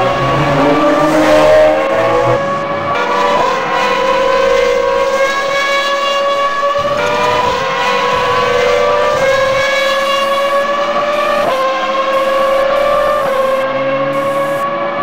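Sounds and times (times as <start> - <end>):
high steady car engine note: 0.0 - 15.0.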